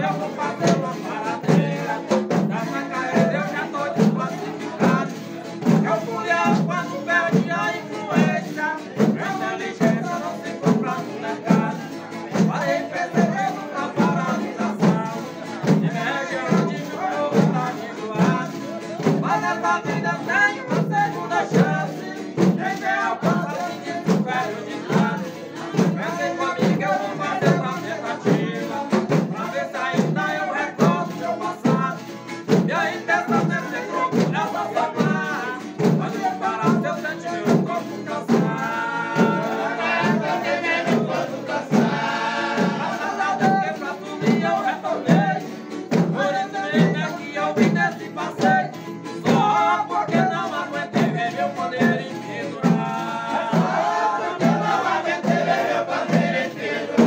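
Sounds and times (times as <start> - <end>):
hand drums beating: 0.0 - 57.0
men singing in chorus: 0.0 - 57.0.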